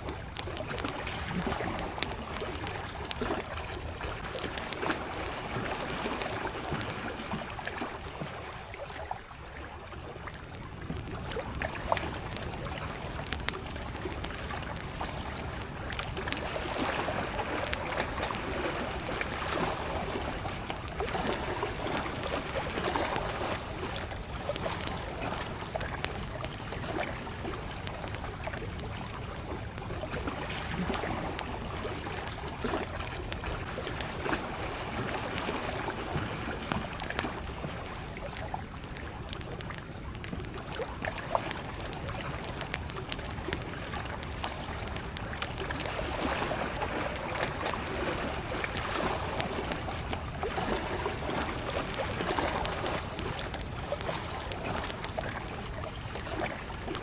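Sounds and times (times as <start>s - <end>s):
campfire crackling and popping: 0.0s - 57.0s
lake waves lapping: 0.0s - 57.0s.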